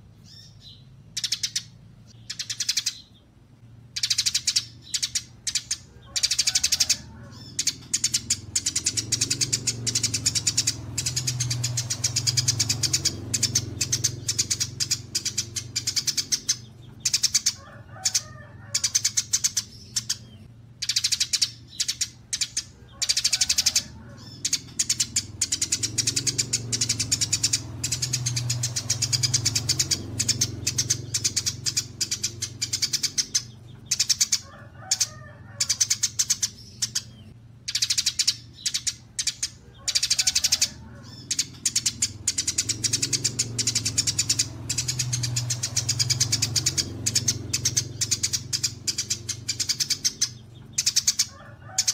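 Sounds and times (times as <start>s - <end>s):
recorded songbird chirps: 0.0s - 51.9s.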